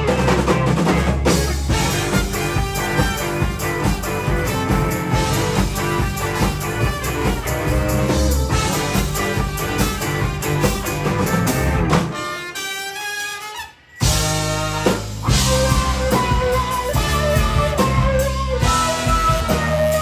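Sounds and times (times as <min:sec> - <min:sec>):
band music with horns: 0:00.0 - 0:20.0.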